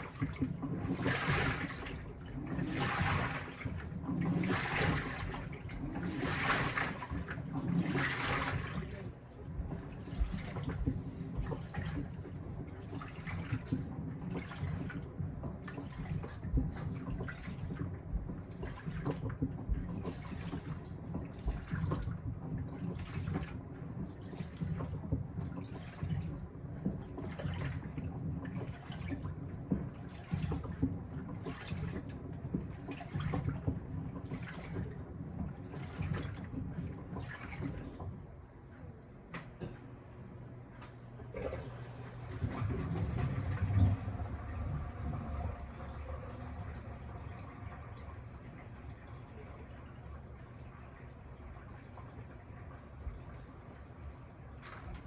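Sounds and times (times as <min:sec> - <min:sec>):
washing machine agitating laundry: 0:00.0 - 0:55.0.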